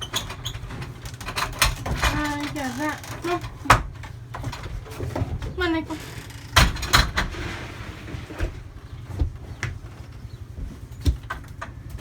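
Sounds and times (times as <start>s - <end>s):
knocks and clanks in a stall: 0.0s - 12.0s
low steady hum: 0.0s - 12.0s.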